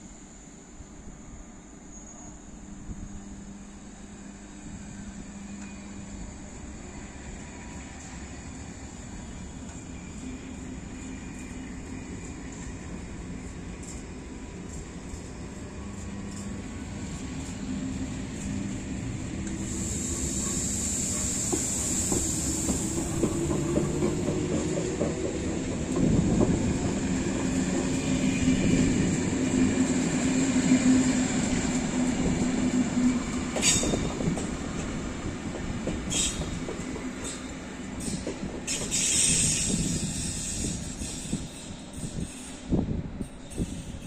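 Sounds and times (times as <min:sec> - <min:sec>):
electric train running hum: 0:00.0 - 0:44.0
wheels clicking and squealing on rails: 0:01.7 - 0:44.0.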